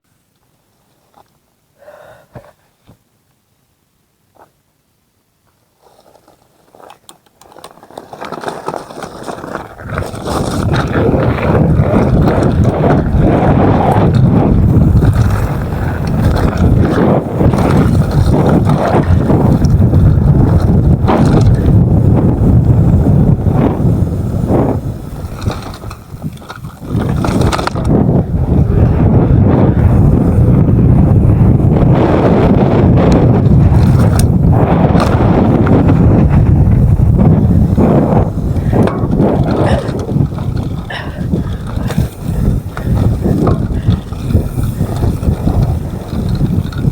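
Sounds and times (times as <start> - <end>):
bike rattling on dirt trail: 5.5 - 46.9
wind buffeting microphone: 8.4 - 46.9.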